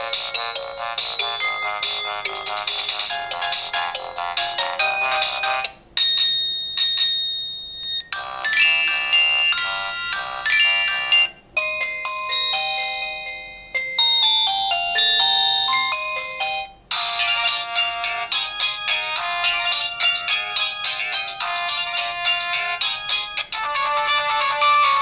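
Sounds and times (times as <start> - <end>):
electronic ringtone melodies: 0.0 - 25.0.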